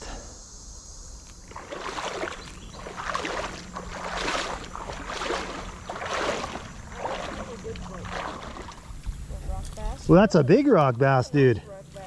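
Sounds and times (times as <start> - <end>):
creek water splashing: 1.2 - 11.1.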